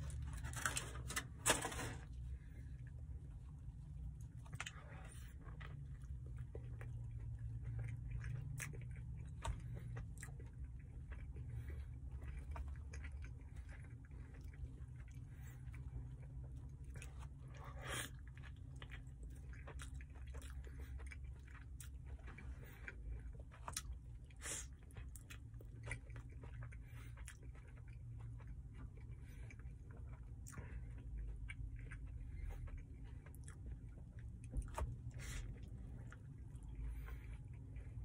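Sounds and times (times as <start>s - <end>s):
steady low hum: 0.0s - 38.0s
person chewing: 2.3s - 38.0s.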